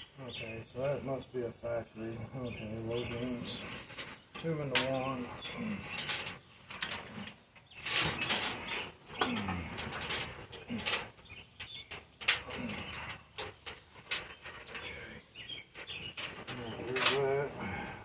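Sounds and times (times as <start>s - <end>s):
tape rustling and crinkling: 3.0s - 17.8s.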